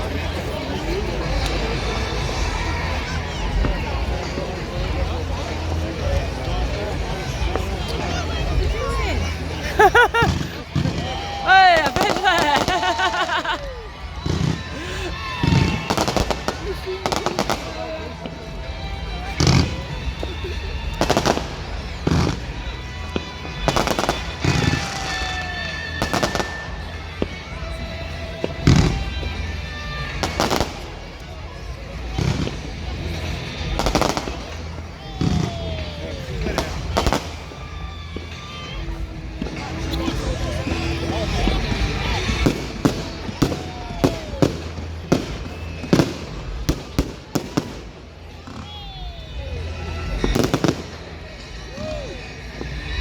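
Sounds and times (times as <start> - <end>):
fireworks banging and crackling: 0.0 - 53.0.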